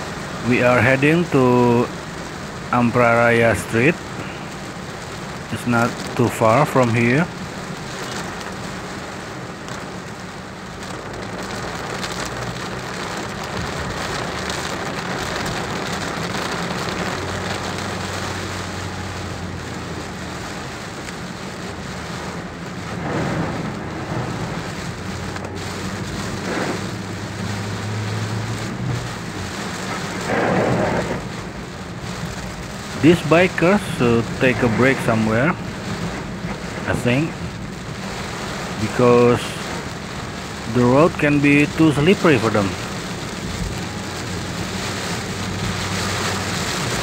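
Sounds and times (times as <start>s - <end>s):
heavy rain on car roof: 0.0s - 47.0s.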